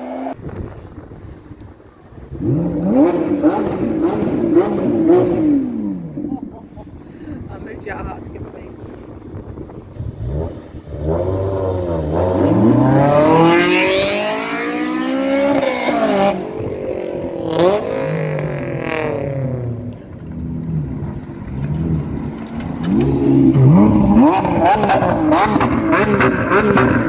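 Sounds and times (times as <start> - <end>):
car engine rolling up: 0.3 - 27.0
sports car engine revving: 2.3 - 6.3, 8.8 - 27.0.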